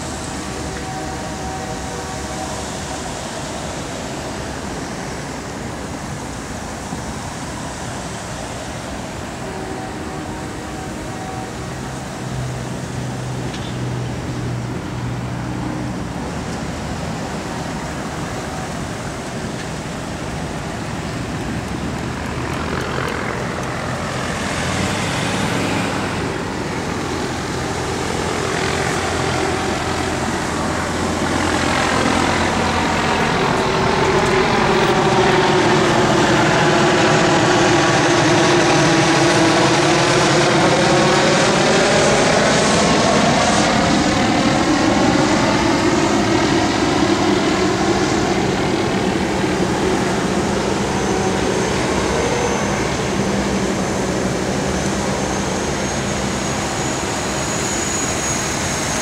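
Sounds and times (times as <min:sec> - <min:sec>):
helicopter flying overhead: 0:00.0 - 0:59.0
vehicles driving past: 0:00.0 - 0:59.0.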